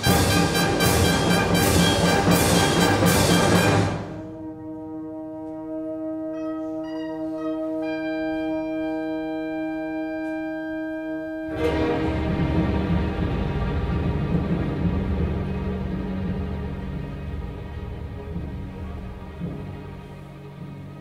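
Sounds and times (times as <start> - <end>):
orchestra playing: 0.0 - 21.0.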